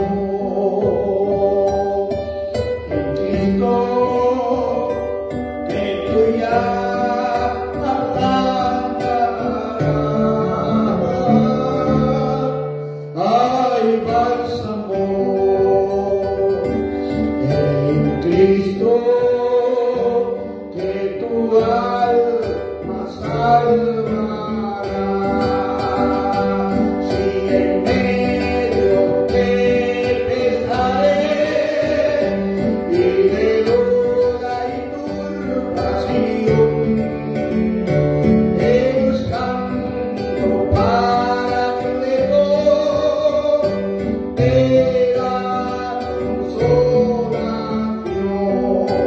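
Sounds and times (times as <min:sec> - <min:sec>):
person singing a hymn: 0:00.0 - 0:49.0
plucked string accompaniment: 0:00.0 - 0:49.0.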